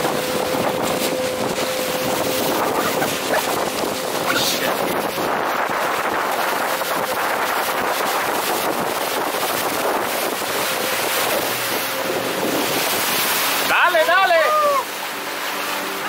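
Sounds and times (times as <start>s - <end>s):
wind buffeting microphone: 0.0s - 13.8s
whitewater rushing: 0.0s - 16.0s.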